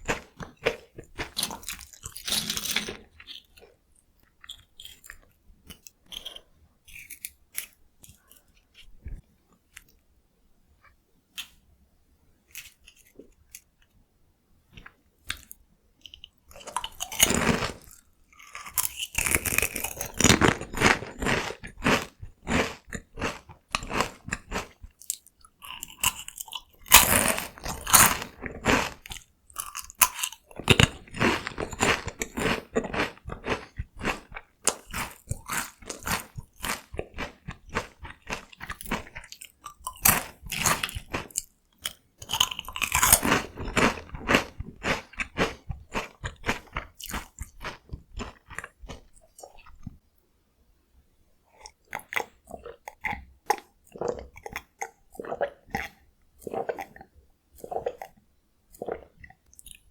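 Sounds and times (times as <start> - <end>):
crunching and chewing snack: 0.0 - 10.0, 14.7 - 50.0, 51.5 - 59.9.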